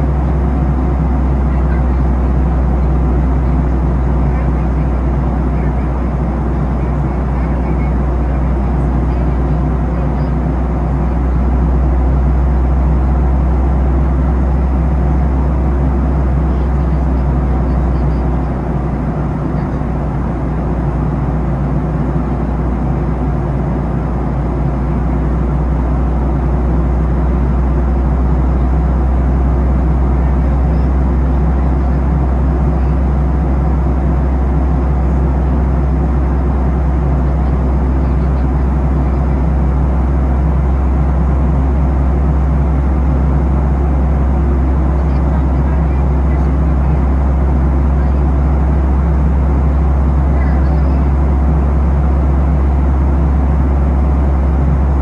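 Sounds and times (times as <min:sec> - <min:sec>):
aircraft engine drone: 0:00.0 - 0:55.0
deep rumble: 0:00.0 - 0:55.0.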